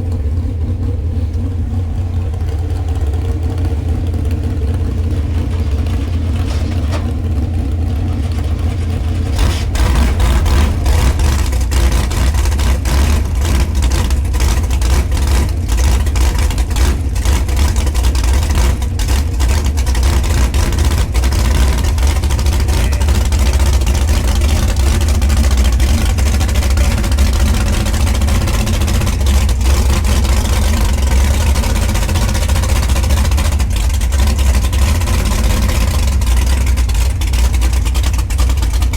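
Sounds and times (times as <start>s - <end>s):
rushing rattling noise: 0.0s - 38.9s
vehicle engine rumbling: 0.0s - 38.9s.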